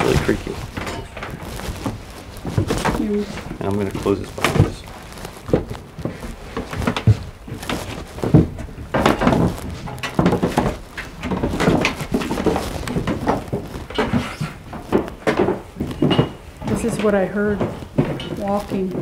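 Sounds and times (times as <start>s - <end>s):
footsteps on creaking wooden stairs: 0.0s - 19.0s.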